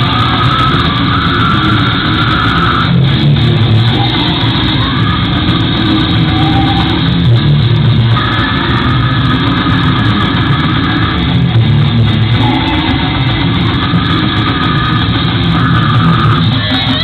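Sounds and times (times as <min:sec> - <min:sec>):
death metal band playing live: 0:00.0 - 0:17.0.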